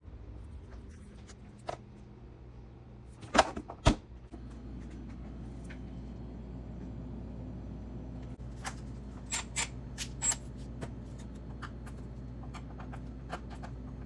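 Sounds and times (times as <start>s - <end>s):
refrigerator low hum: 0.0s - 14.0s.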